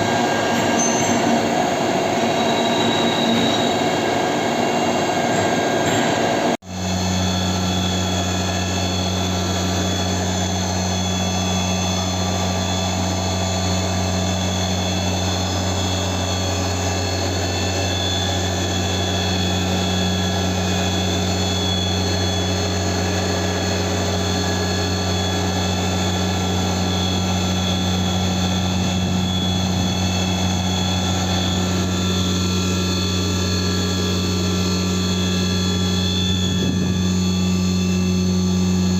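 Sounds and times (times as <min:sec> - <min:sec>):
milling machine humming and whining: 0:00.0 - 0:38.9.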